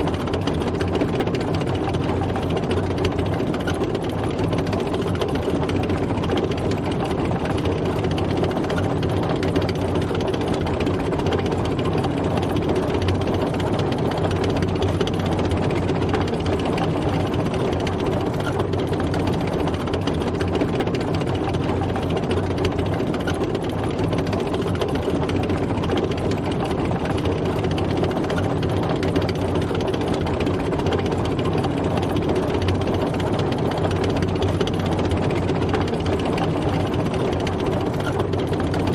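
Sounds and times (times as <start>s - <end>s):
tank engine running: 0.0s - 38.9s.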